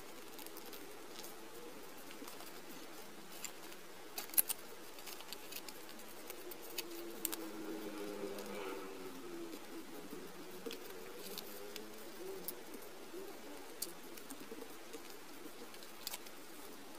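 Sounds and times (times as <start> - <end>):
paper rustling and crinkling: 0.0 - 8.5, 9.5 - 16.9.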